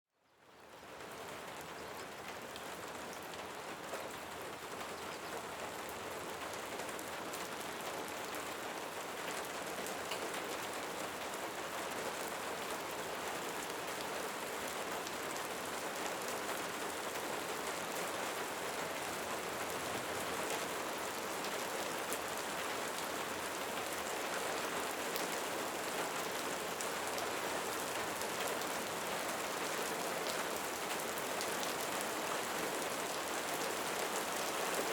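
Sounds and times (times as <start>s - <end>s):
light rain falling: 0.2s - 34.9s.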